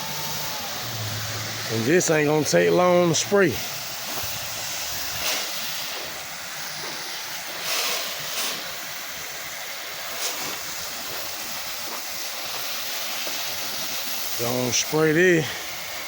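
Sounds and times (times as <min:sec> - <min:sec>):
pressure washer spraying: 0:00.0 - 0:16.0.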